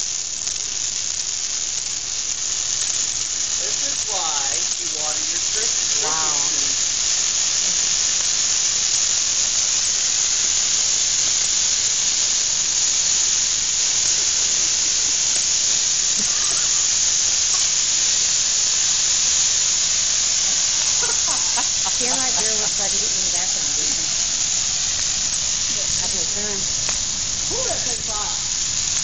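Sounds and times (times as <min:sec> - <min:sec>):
dry tree burning with hissing flame: 0:00.0 - 0:29.0.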